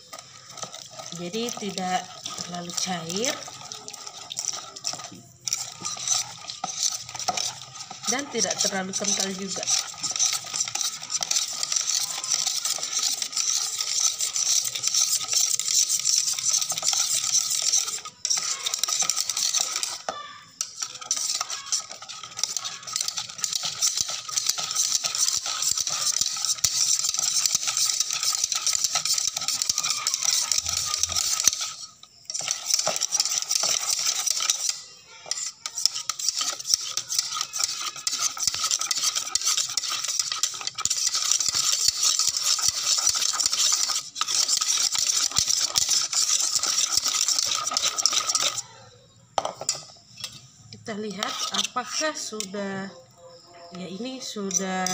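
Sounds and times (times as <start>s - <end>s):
whisk beating thick batter: 0.0s - 48.7s, 49.4s - 52.5s, 54.0s - 54.9s.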